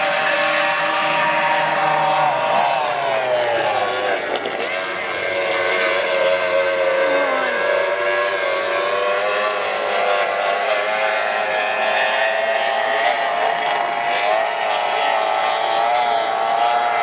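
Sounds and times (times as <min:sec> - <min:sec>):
outboard engines whining: 0:00.0 - 0:17.0.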